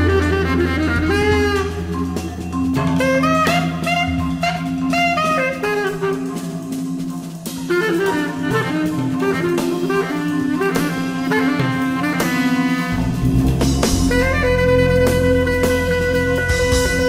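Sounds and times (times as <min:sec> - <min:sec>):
jazz ensemble playing: 0:00.0 - 0:17.0.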